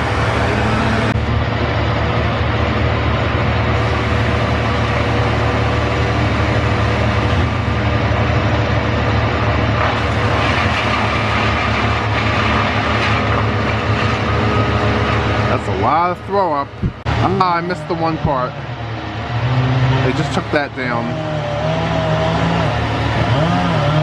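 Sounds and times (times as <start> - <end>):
heavy equipment engine humming: 0.0 - 24.0.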